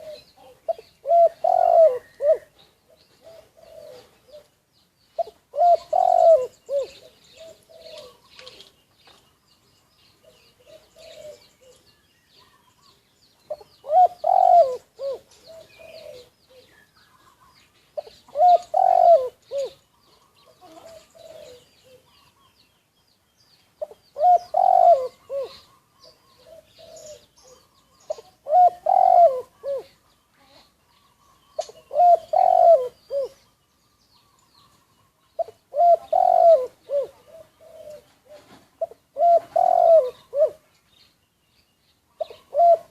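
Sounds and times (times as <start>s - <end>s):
dove cooing: 0.0s - 4.6s, 5.2s - 8.7s, 10.2s - 22.5s, 23.8s - 33.5s, 34.6s - 40.7s, 42.1s - 42.9s
faint small birds chirping: 0.0s - 42.9s.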